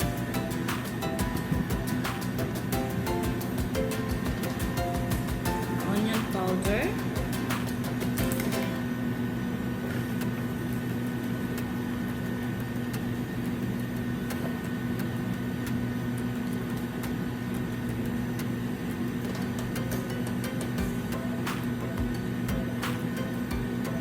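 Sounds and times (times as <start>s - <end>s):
electrical hum with whine: 0.0s - 24.0s.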